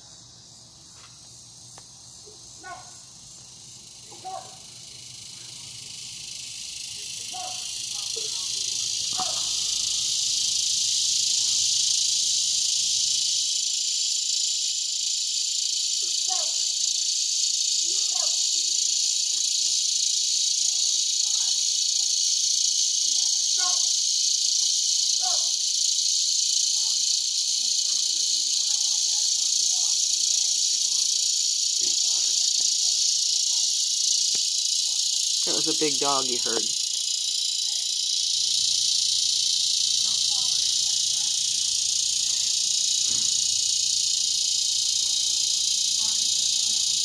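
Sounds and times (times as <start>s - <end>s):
cicadas buzzing: 0.0s - 47.0s.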